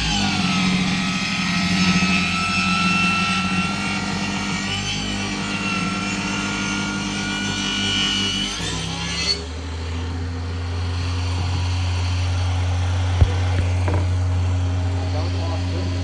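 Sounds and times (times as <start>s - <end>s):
power saw cutting plywood: 0.0s - 16.0s.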